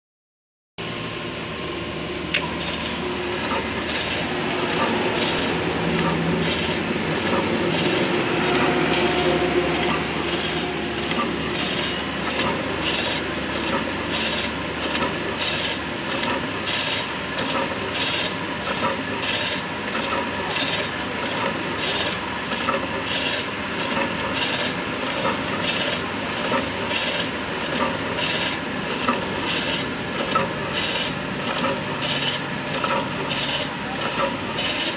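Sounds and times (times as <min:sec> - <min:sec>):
meat slicer running: 0:00.8 - 0:34.9
rasping slicing strokes: 0:02.6 - 0:34.9.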